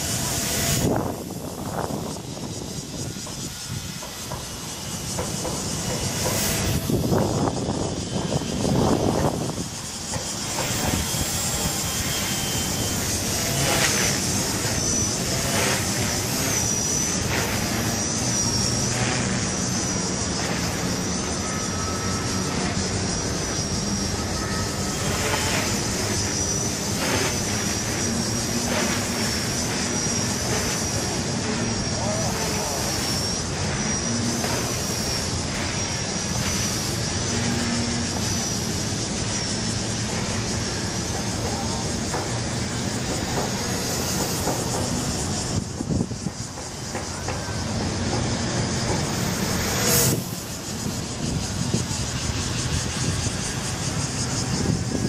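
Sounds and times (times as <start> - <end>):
micro helicopter whining: 0.0 - 55.0
rushing background noise: 0.0 - 55.0.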